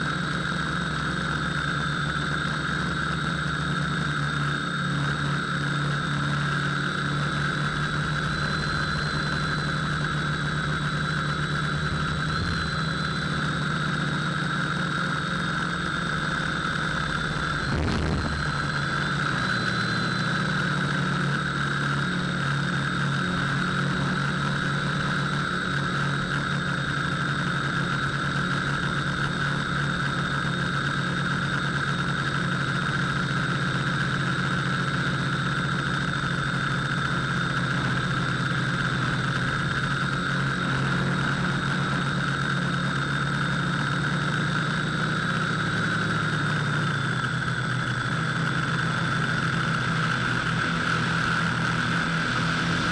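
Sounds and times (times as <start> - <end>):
model aircraft motor whine: 0.0 - 52.9.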